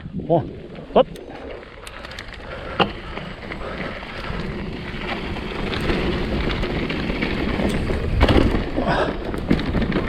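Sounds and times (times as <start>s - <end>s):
mountain bike tyre noise: 0.0s - 10.0s
bike rattling and knocking: 0.6s - 10.0s.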